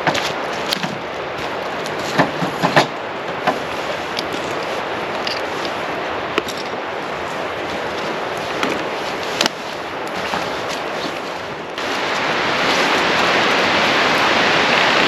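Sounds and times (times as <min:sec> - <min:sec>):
campfire crackling: 0:00.0 - 0:15.0
steady rushing hiss: 0:00.0 - 0:15.0.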